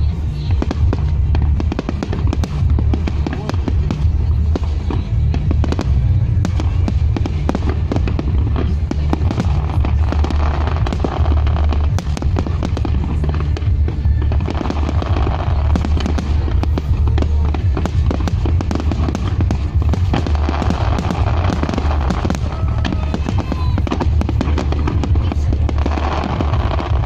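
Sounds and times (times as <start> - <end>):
fireworks popping and crackling: 0.0 - 27.0
low rumble: 0.0 - 27.0.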